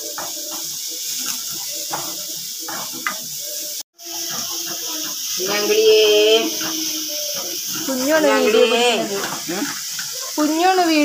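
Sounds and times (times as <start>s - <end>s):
food sizzling in a pan: 0.0s - 11.0s
spatula scraping and stirring: 0.0s - 11.0s.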